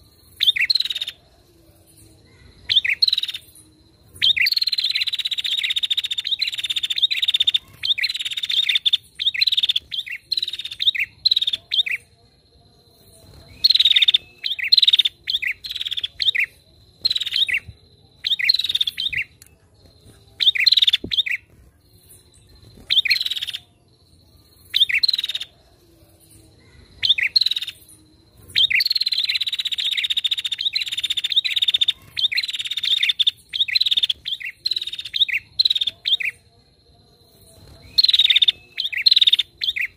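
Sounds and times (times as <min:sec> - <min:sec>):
bird chirping: 0:00.0 - 0:39.9
faint steady high tone: 0:00.0 - 0:39.9.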